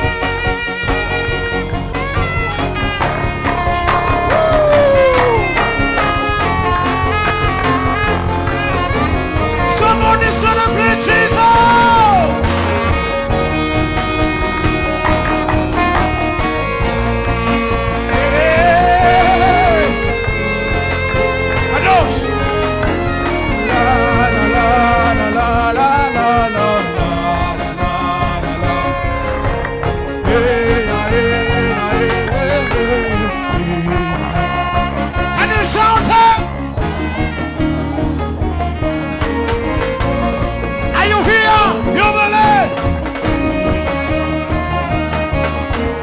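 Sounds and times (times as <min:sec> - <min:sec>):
bass accompaniment: 0:00.0 - 0:46.0
lead melody with held notes: 0:00.0 - 0:46.0
live worship band music: 0:00.0 - 0:46.0.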